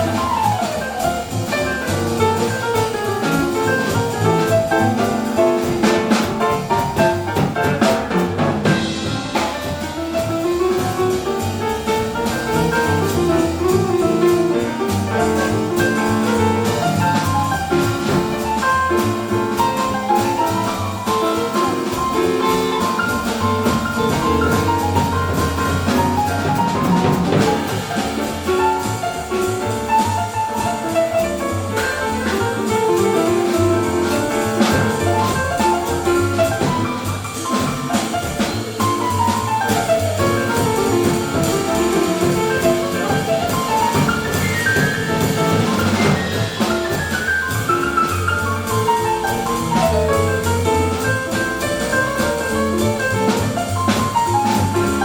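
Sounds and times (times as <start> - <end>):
small jazz band playing live: 0.0 - 55.0.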